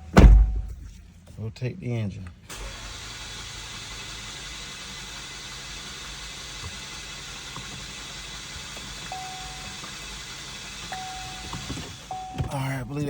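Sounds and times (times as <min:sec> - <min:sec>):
starter cranking engine: 0:02.5 - 0:13.0.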